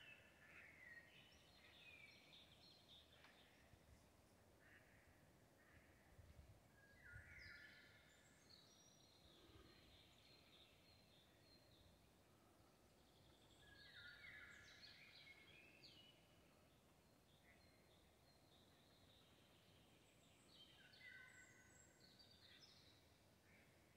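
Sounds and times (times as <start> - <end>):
songbirds calling softly: 0.0 - 23.9.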